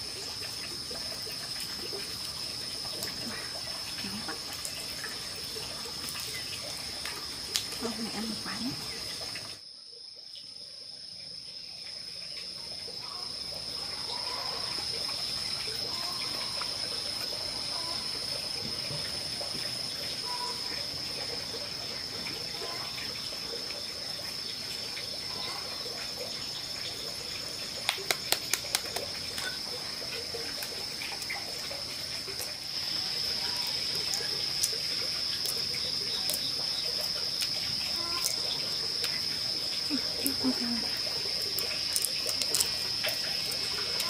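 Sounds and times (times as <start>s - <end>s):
running water: 0.0s - 44.0s
high-pitched insect drone: 6.3s - 27.8s, 29.3s - 44.0s.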